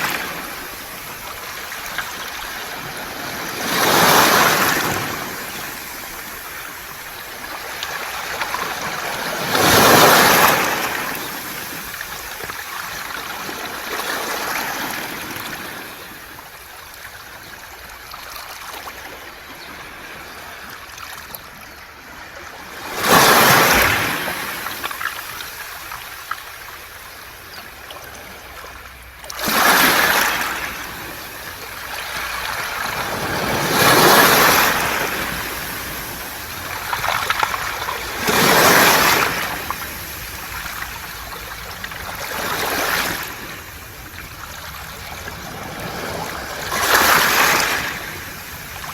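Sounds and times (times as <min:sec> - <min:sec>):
waves breaking on pebble beach: 0:00.0 - 0:16.6, 0:22.2 - 0:28.6, 0:29.3 - 0:48.9.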